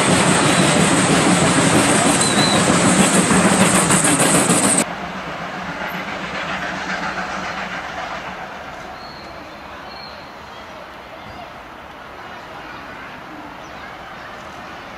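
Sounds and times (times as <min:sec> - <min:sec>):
steam locomotive hissing and chuffing: 0:00.0 - 0:14.9
train rumble: 0:00.0 - 0:14.9.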